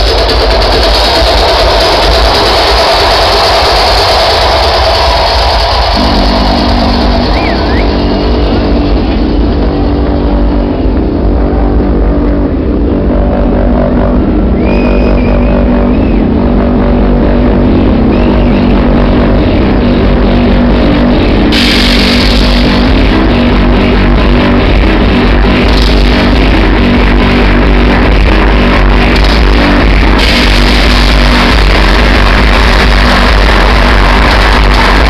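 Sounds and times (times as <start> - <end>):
techno music with heavy bass: 0.0 - 35.0.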